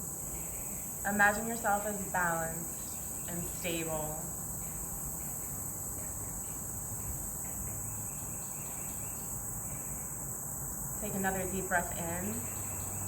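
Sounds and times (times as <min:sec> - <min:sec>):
insects droning chorus: 0:00.0 - 0:13.0.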